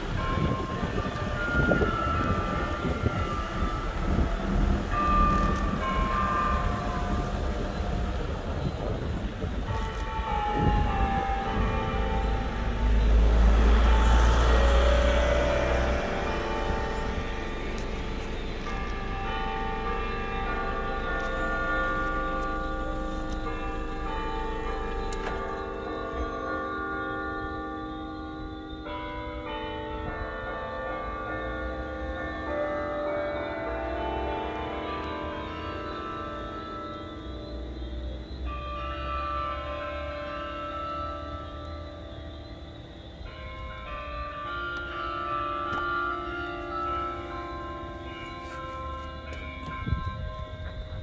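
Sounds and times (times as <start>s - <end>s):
church bells ringing: 0.0s - 51.0s.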